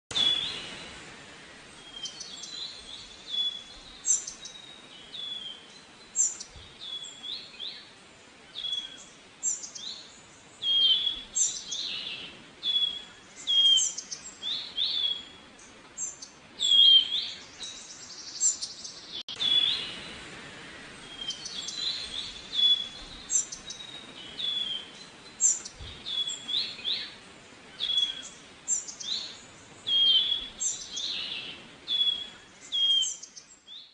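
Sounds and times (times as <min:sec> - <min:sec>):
faint background hiss: 0:00.1 - 0:33.9
songbirds chirping: 0:00.1 - 0:33.9.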